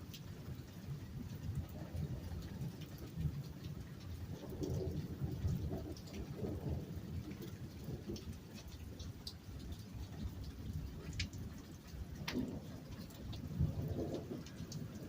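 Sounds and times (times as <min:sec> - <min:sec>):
rain falling: 0:00.0 - 0:15.0
rumble of thunder: 0:01.0 - 0:15.0.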